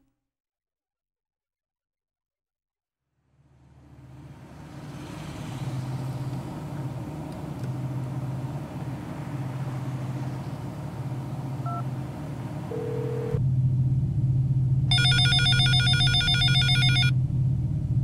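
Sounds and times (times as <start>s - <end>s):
road noise: 3.1s - 18.0s
car engine hum: 3.2s - 18.0s.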